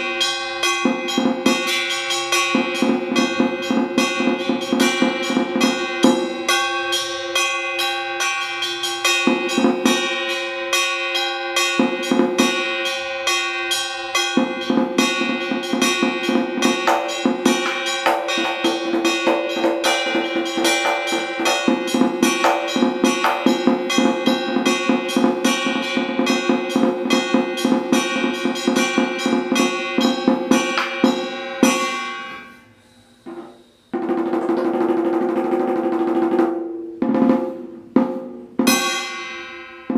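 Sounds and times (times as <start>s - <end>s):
drum played fast with sticks: 0.0s - 6.6s, 8.8s - 10.3s, 11.7s - 12.8s, 14.1s - 32.4s, 33.3s - 39.2s.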